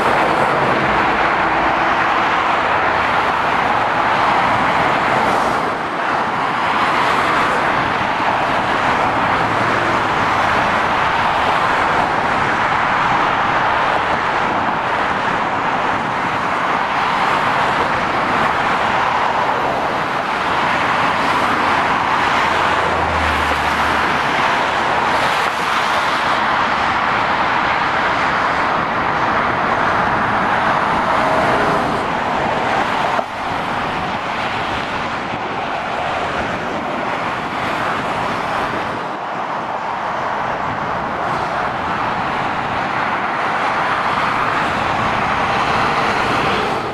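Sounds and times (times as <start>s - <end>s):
motorway traffic: 0.0s - 46.9s.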